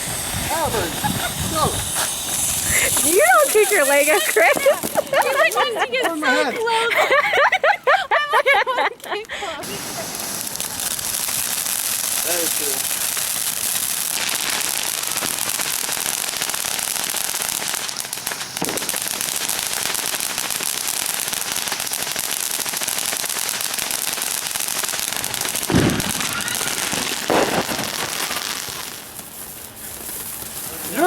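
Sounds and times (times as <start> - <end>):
firework bang: 0.0 - 5.7, 9.6 - 31.0
firework sparks crackling hiss: 0.0 - 31.0.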